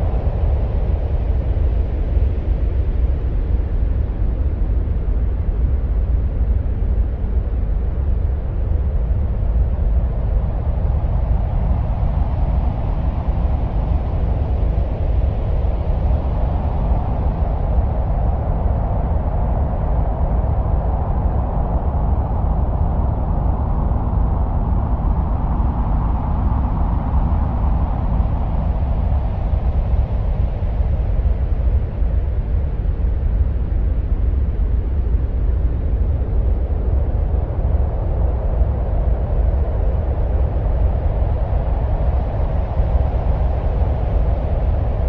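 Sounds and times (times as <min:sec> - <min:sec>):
wind-like rushing noise: 0:00.0 - 0:45.0.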